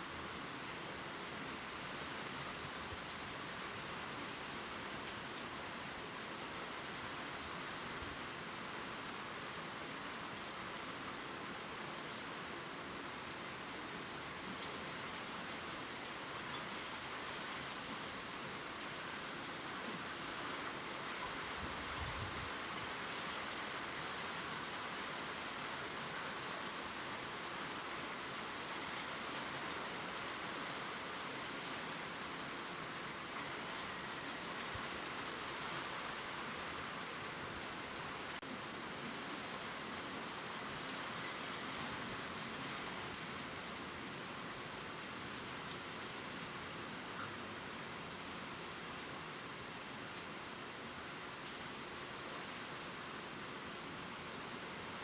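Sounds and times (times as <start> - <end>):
rain pattering on leaves: 0.4 - 55.0.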